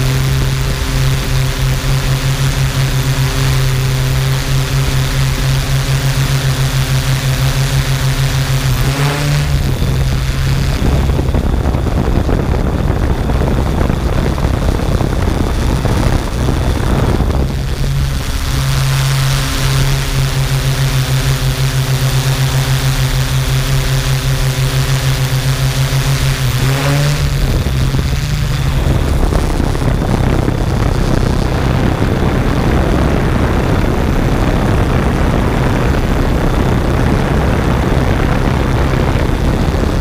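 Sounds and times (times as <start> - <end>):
drone propellers humming: 0.0 - 40.0.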